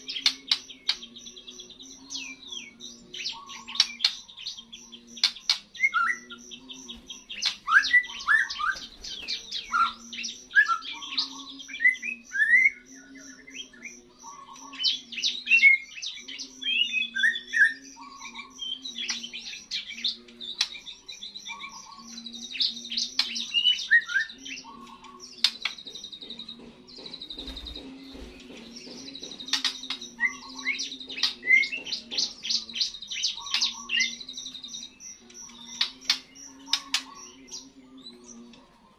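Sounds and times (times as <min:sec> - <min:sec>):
bird singing chirps and whistles: 0:00.0 - 0:38.7.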